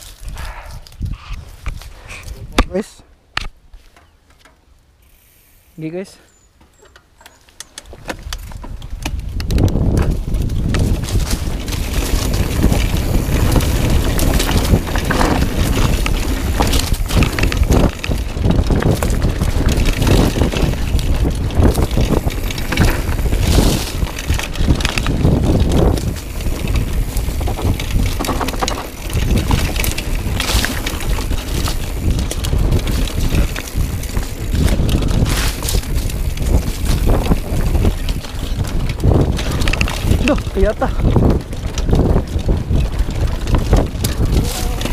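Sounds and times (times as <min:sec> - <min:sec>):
wind buffeting microphone: 0:00.0 - 0:02.9, 0:07.8 - 0:44.9
bike knocking and rattling: 0:06.6 - 0:44.9.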